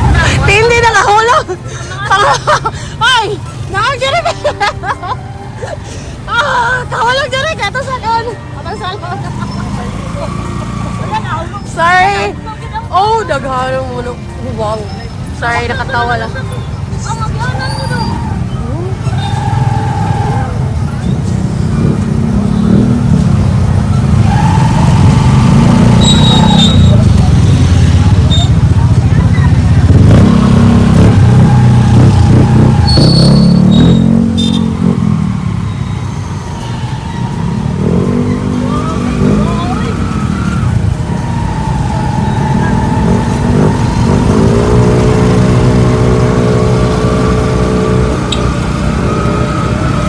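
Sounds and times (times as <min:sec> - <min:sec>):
road noise: 0:00.0 - 0:50.0
vehicle engine rumble: 0:00.0 - 0:50.0.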